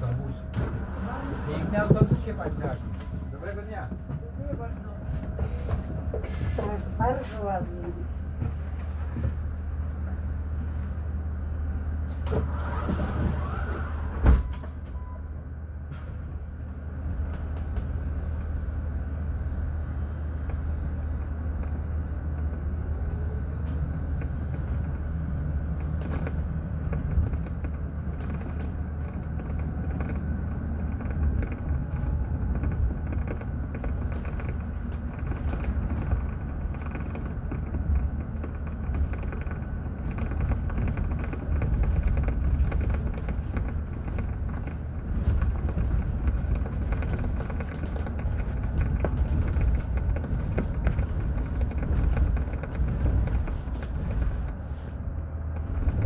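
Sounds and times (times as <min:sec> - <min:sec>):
electric bus humming: 0:00.0 - 0:56.0.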